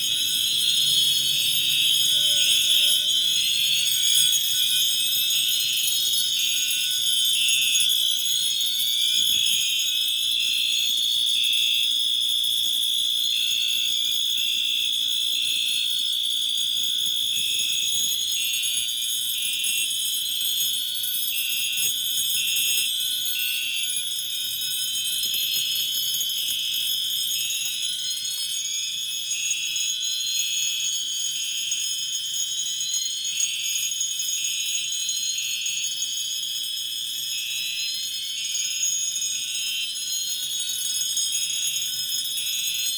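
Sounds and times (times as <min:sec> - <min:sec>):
steady high-pitched alarm tone: 0:00.0 - 0:36.4.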